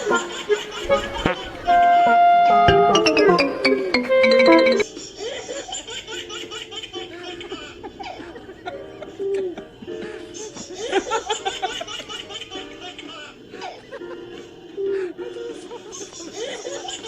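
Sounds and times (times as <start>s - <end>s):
people laughing: 0.0s - 1.9s, 4.8s - 17.0s
background music: 0.0s - 17.0s.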